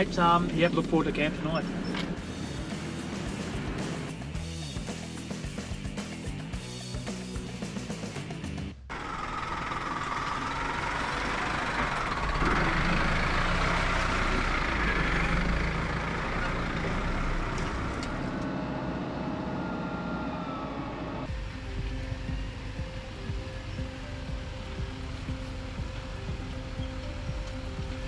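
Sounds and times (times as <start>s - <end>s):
truck driving on dirt track: 0.0s - 4.5s, 8.9s - 28.0s.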